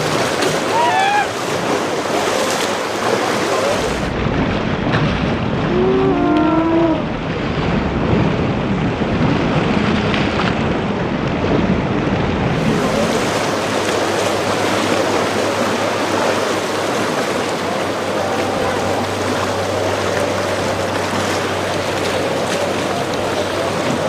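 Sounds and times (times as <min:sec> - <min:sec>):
surf rushing: 0:00.0 - 0:24.0
wind buffeting microphone: 0:00.0 - 0:24.0.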